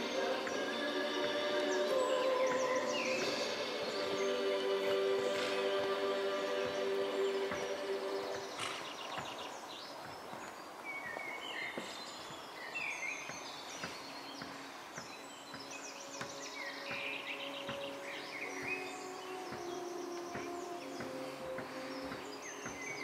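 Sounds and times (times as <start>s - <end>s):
background music: 0.0s - 23.0s
birds chirping and singing: 0.0s - 23.0s
outdoor background noise: 0.0s - 23.0s.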